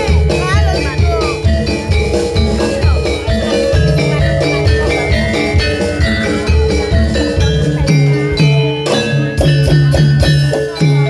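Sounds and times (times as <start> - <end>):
drum beats: 0.0 - 11.0
metallophone notes: 0.0 - 11.0.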